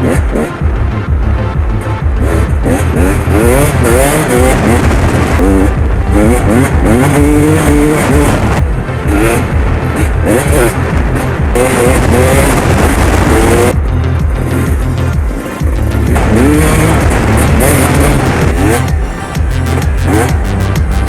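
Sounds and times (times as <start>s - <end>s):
bass-heavy beat music: 0.0s - 21.0s
vehicle engine revving: 0.0s - 21.0s.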